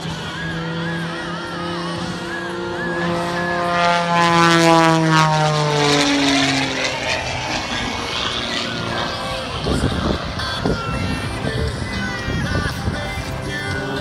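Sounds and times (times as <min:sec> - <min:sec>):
propeller plane passing by: 0:00.0 - 0:14.0.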